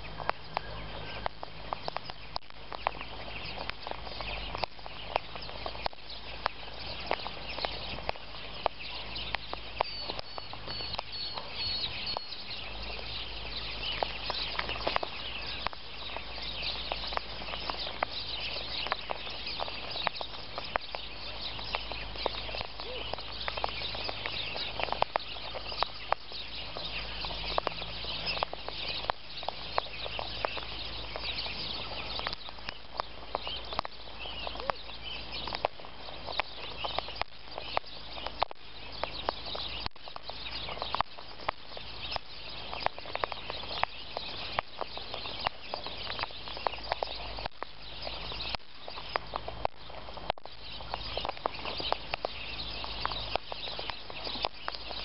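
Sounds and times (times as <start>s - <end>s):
birds cracking seeds: 0.0s - 55.0s.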